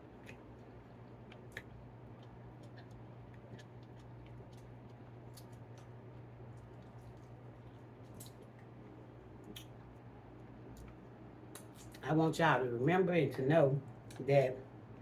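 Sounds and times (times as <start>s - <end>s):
chewing clicks and smacks: 0.0s - 12.1s
steady low hum: 0.0s - 15.0s.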